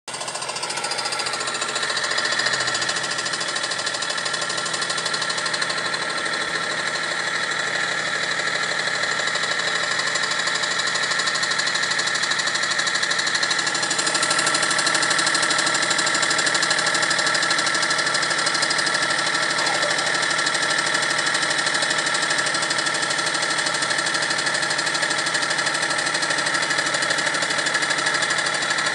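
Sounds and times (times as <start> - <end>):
fast ticking rattle: 0.1 - 7.5, 13.0 - 28.9
car engine running: 0.1 - 28.9.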